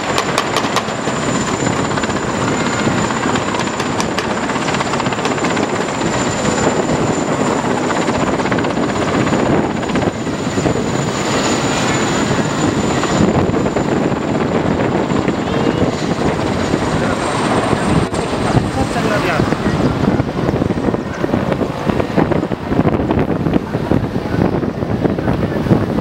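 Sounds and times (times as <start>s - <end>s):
helicopter rotor whir and chop: 0.0s - 26.0s.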